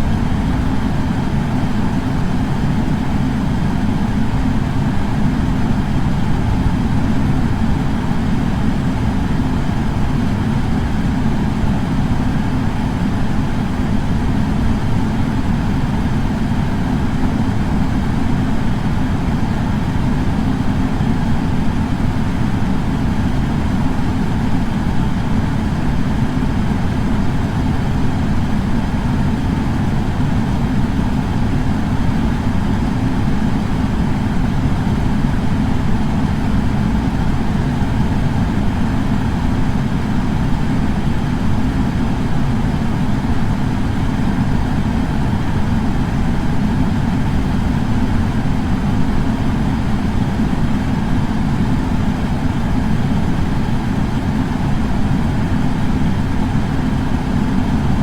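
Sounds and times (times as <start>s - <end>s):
air purifier fan humming: 0.0s - 58.0s.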